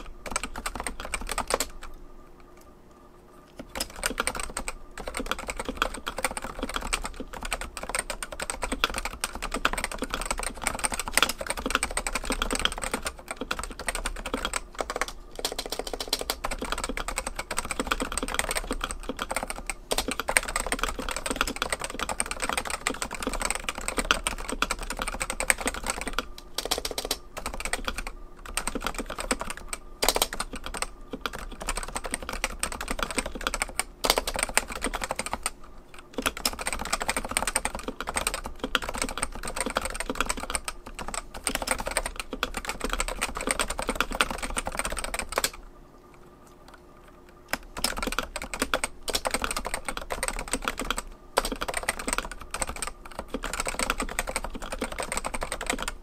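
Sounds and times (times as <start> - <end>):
keyboard typing: 0.0 - 56.0.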